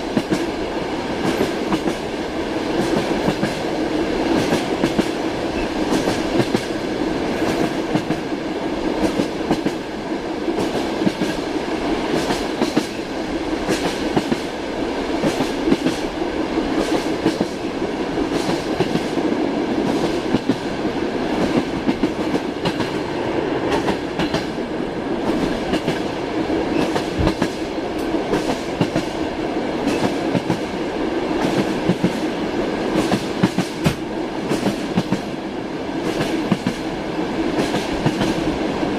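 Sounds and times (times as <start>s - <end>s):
train carriage rumbling: 0.0s - 38.9s.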